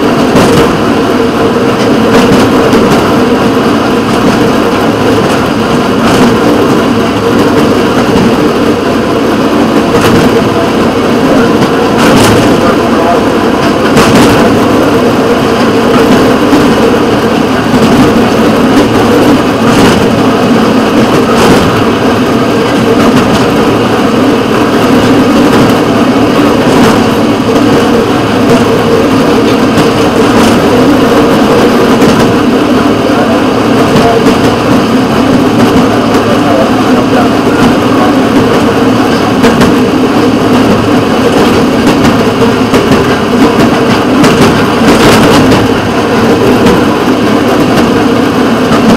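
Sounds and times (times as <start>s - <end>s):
rail vehicle engine running: 0.0s - 48.9s.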